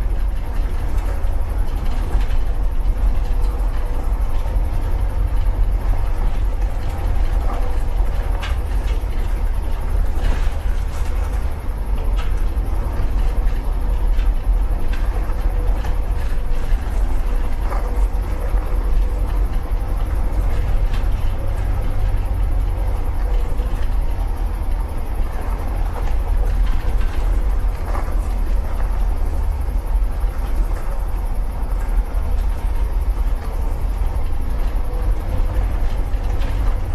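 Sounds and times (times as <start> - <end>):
faint clicks and rattles: 0.0 - 36.9
truck engine rumbling: 0.0 - 36.9.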